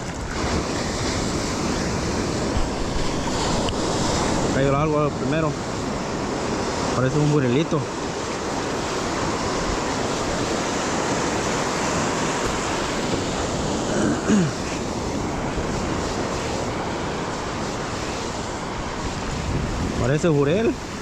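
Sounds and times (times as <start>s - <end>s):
beach surf rushing: 0.0s - 21.0s
wind on microphone: 0.0s - 21.0s.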